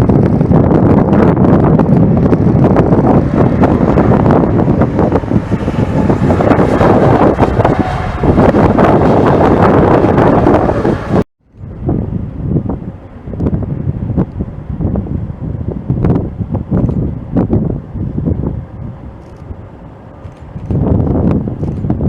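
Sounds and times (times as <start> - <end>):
jet airliner engines rumbling: 0.0 - 22.0
wind buffeting microphone: 0.0 - 22.0.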